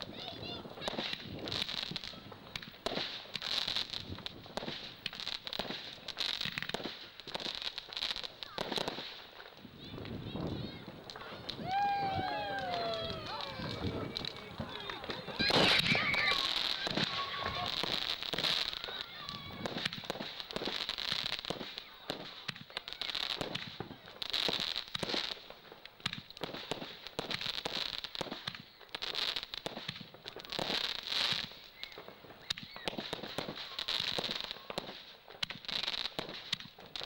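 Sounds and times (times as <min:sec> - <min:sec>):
fireworks bangs and pops: 0:00.0 - 0:37.0
fireworks crackling: 0:00.0 - 0:37.0.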